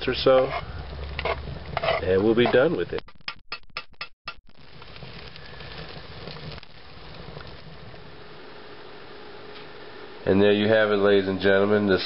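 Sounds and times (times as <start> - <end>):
food crackling and hissing in pot: 0.0 - 3.0, 4.5 - 12.0.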